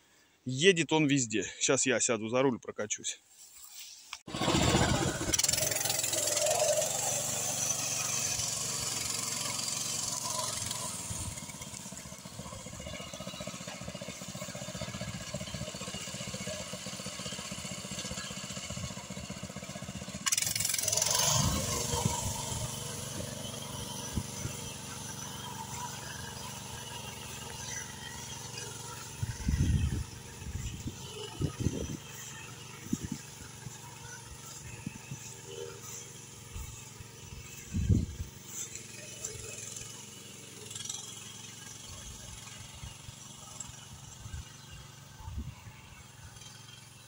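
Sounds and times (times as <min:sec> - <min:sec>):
small tractor engine running: 0:04.3 - 0:47.0.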